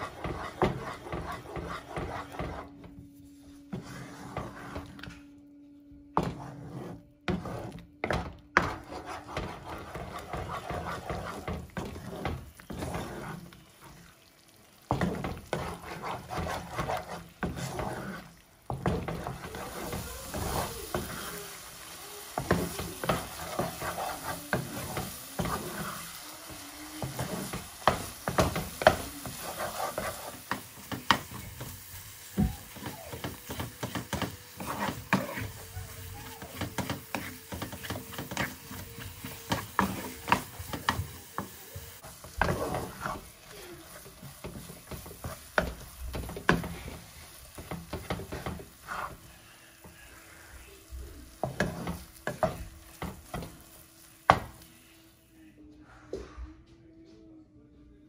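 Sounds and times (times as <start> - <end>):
wooden spatula scraping a pan: 0.0 - 5.3, 6.1 - 54.7
light sizzle: 0.0 - 55.5.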